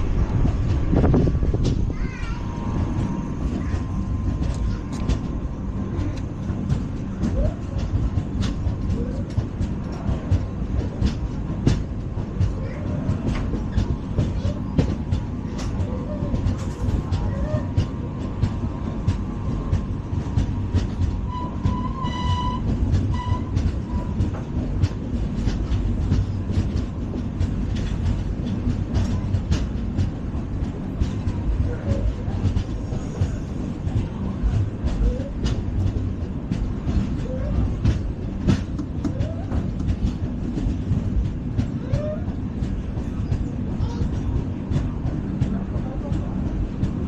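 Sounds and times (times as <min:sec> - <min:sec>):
train track rumble: 0:00.0 - 0:47.0
wheels clicking over rails: 0:00.0 - 0:47.0.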